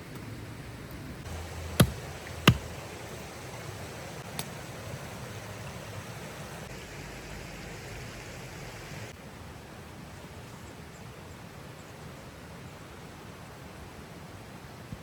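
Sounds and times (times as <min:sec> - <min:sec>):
rushing outdoor noise: 0:00.0 - 0:15.0.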